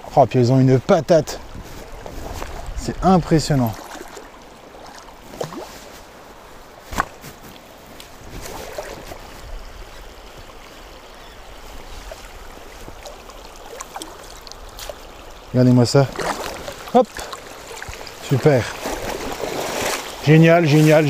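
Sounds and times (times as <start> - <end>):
shallow river over stones: 0.0 - 21.0
light water splashing: 1.3 - 21.0.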